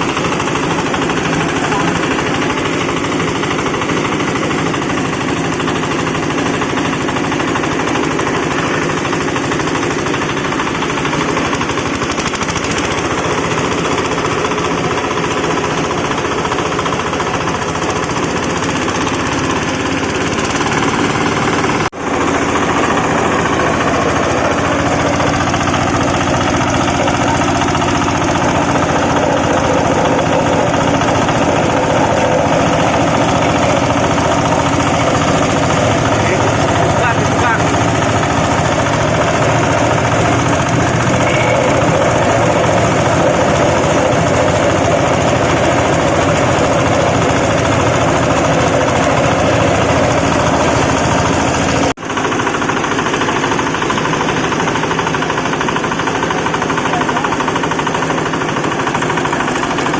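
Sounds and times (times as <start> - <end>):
wood-shaving machine clattering: 0.0 - 59.9.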